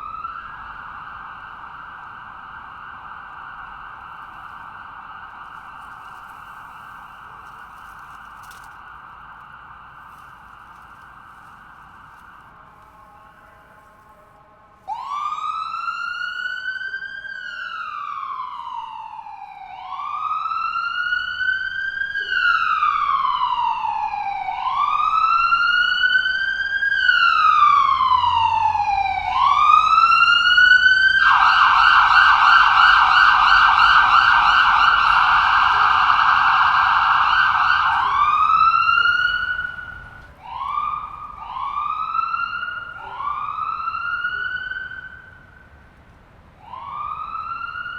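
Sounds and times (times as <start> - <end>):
ambulance siren wailing: 0.0 - 47.9.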